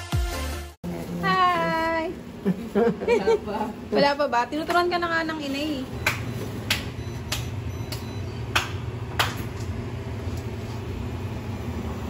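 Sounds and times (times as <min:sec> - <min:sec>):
steady low hum: 0:00.9 - 0:12.0.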